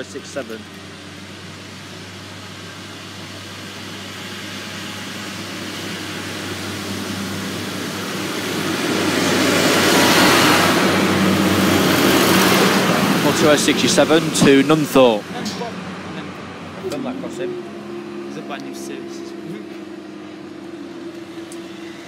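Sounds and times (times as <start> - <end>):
diesel engine hum: 0.0 - 22.0
wheels rumbling on rail: 0.0 - 22.0.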